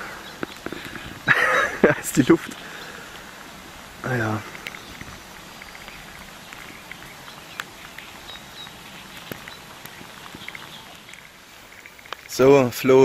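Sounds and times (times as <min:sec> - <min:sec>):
rain falling on water: 0:00.0 - 0:13.0.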